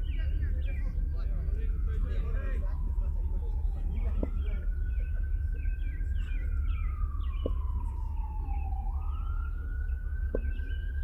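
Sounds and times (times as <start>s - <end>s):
siren wailing: 0.0s - 11.0s
steady low rumble: 0.0s - 11.0s.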